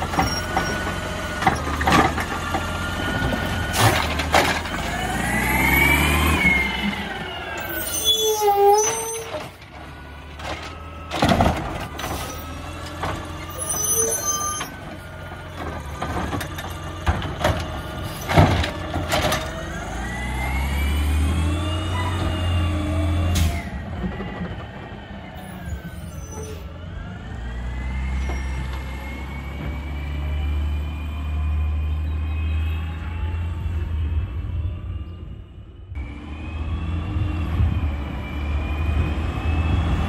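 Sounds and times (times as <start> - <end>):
truck engine revving: 0.0 - 35.0, 36.0 - 40.0.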